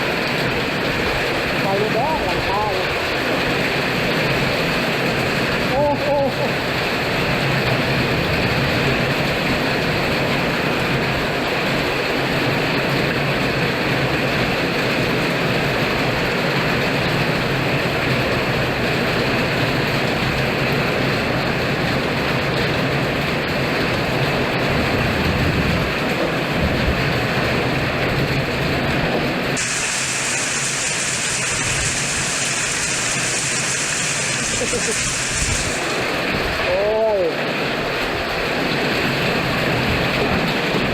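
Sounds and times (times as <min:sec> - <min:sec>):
heavy rain: 0:00.0 - 0:40.9
strong wind: 0:00.0 - 0:40.9.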